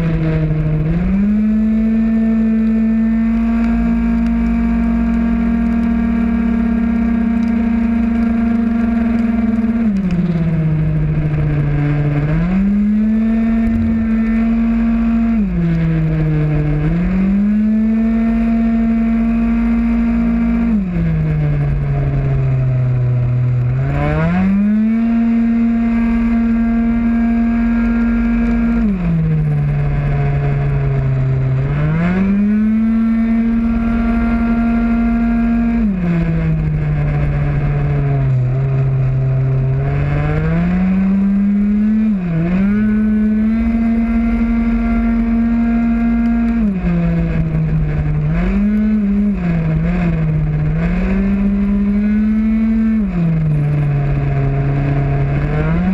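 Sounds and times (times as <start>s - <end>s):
scooter engine at high revs: 0.0s - 55.9s.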